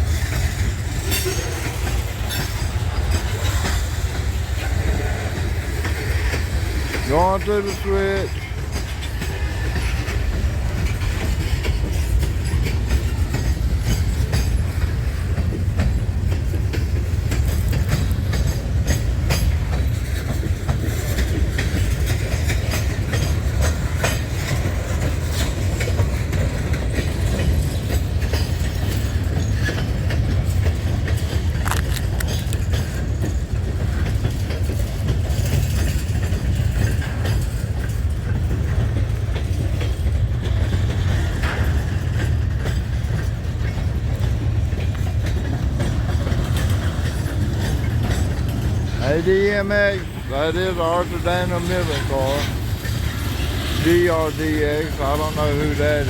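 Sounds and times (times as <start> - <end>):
freight train cars rumbling: 0.0 - 56.0
wheels and couplers clicking: 5.8 - 56.0.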